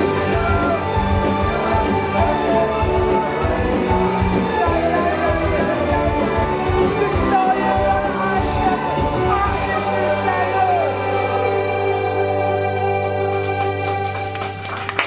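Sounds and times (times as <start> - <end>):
person singing: 0.0 - 12.8
loud rock music: 0.0 - 14.2.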